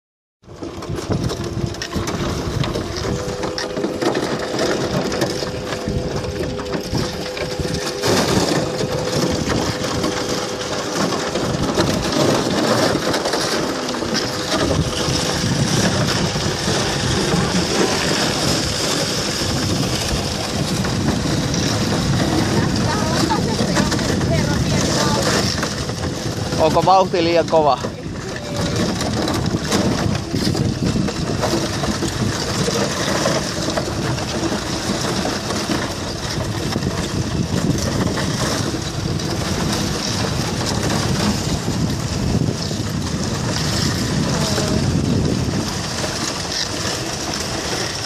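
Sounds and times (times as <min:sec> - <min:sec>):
outboard motor running: 0:00.4 - 0:48.0
ice crunching against boat hull: 0:00.5 - 0:48.0.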